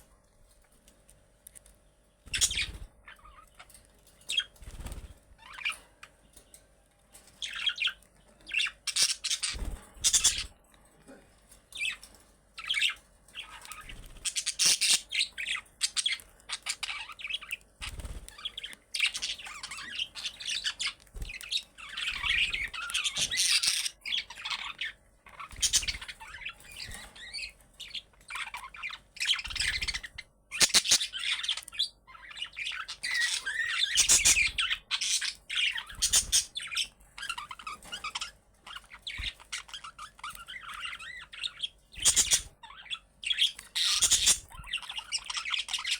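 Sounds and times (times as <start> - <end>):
budgerigars chattering: 2.3 - 3.5, 7.4 - 10.5, 12.6 - 45.9.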